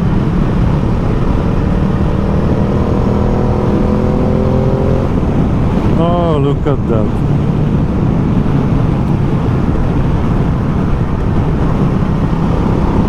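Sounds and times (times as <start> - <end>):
motorcycle engine running: 0.0 - 13.0
wind noise on microphone: 0.0 - 13.0.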